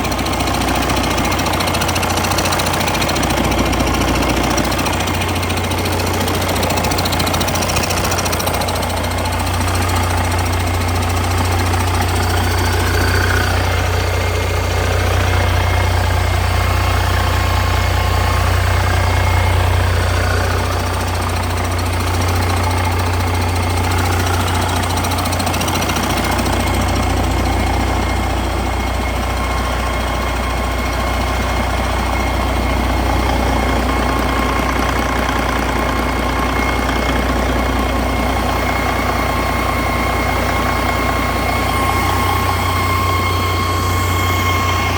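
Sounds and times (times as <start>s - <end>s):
diesel engine rumbling: 0.0s - 44.9s.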